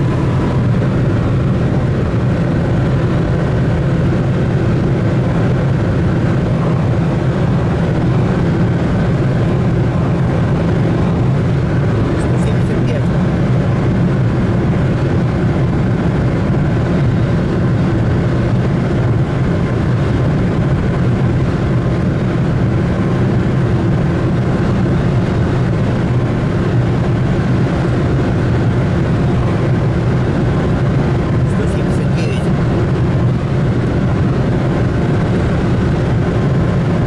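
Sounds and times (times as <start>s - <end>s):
vehicle low rumble: 0.0s - 37.0s.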